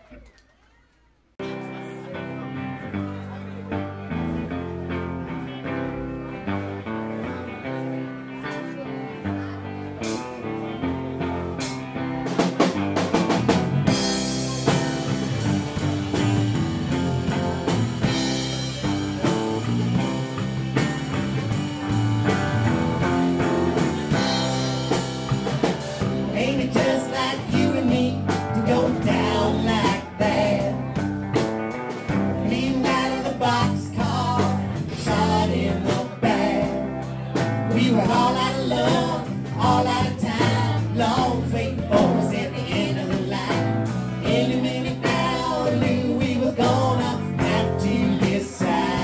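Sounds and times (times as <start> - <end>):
band song with drums and guitar: 1.4 - 49.0.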